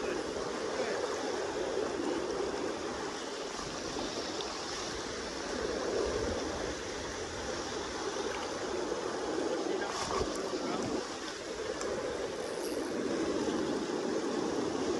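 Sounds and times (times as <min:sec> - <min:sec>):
river current rushing: 0:00.0 - 0:14.9.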